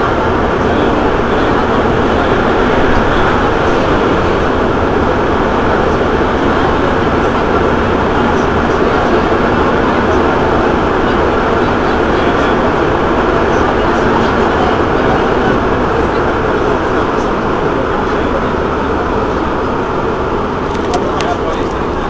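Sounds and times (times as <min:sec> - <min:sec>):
metro train rumbling: 0:00.0 - 0:22.0.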